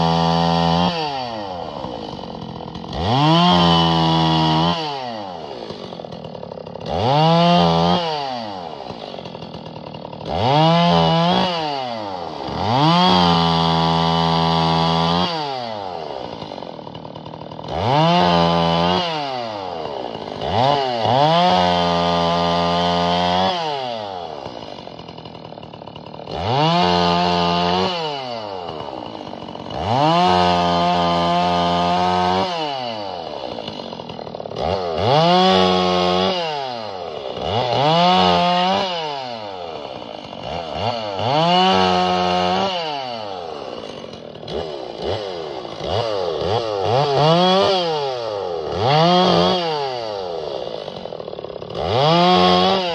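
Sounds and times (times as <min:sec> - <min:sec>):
chainsaw revving and idling: 0:00.0 - 0:52.9.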